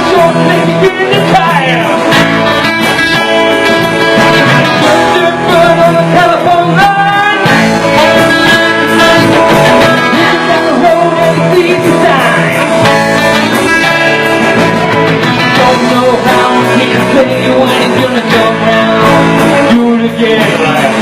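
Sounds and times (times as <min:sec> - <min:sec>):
band playing live: 0:00.0 - 0:21.0
guitar: 0:00.0 - 0:21.0
person singing: 0:00.0 - 0:21.0.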